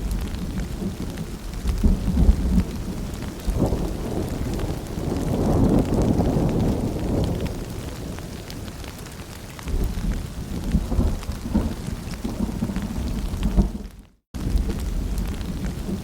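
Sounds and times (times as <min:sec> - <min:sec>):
distant thunder rumble: 0:00.0 - 0:09.0, 0:09.6 - 0:16.0
rain pattering: 0:00.0 - 0:16.0.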